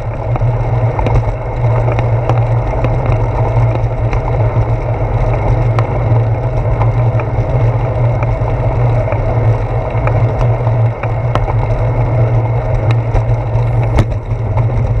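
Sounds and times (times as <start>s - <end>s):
bicycle tyres rumbling on concrete: 0.0s - 15.0s
clicks from bumps: 0.0s - 15.0s.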